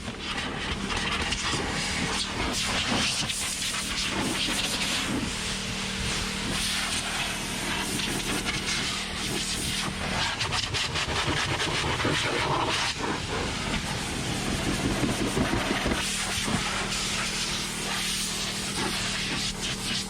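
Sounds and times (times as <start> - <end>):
blower rushing air: 0.0 - 20.0
electric motor hum: 0.0 - 20.0.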